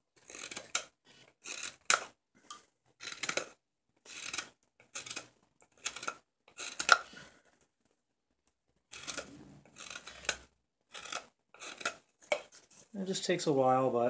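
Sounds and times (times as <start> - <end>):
knife scraping wood: 0.2 - 7.6, 8.8 - 12.9.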